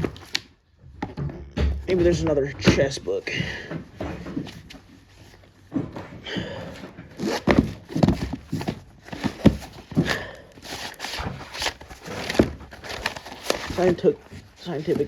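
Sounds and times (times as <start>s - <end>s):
books knocking and thumping: 0.0s - 15.0s.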